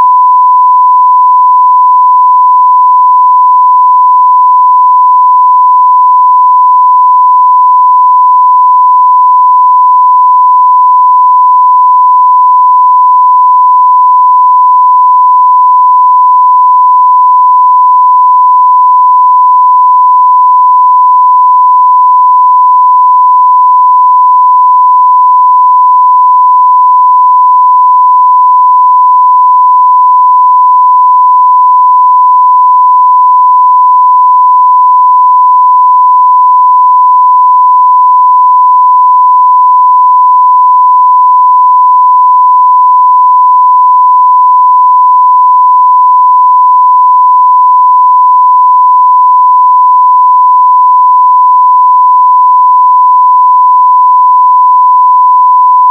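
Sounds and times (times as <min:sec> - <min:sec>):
sine-wave test tone: 0:00.0 - 0:55.9.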